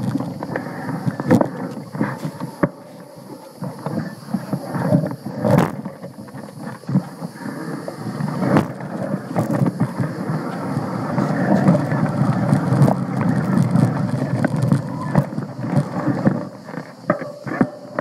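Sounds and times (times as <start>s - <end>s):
bike tyres rumbling and rattling: 0.0s - 18.0s
wind on microphone: 0.0s - 18.0s.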